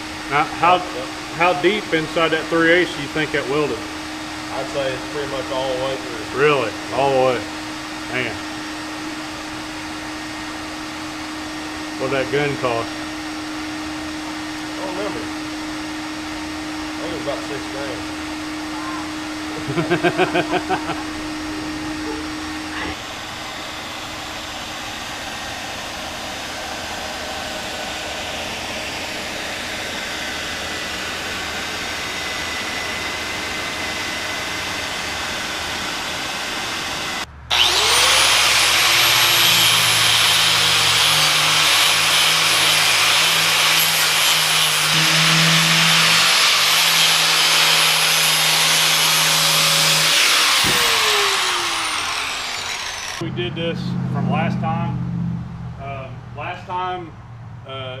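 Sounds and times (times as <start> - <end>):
power tool motor whining: 0.0 - 53.2.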